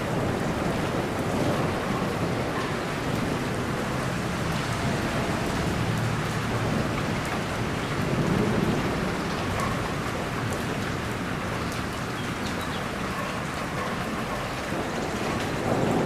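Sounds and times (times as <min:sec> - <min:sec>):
distant thunder rumble: 0:00.0 - 0:16.0
heavy rain falling: 0:00.0 - 0:16.0
raindrops ticking: 0:00.0 - 0:16.0.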